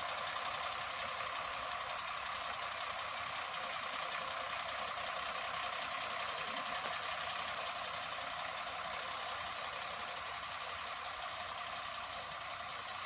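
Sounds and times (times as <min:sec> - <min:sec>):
distant diesel engine running: 0:00.0 - 0:13.0.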